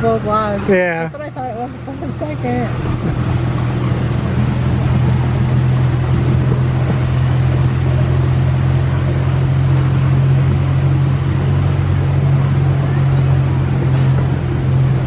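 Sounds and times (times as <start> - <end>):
rumble of moving coaches: 0.0 - 15.0.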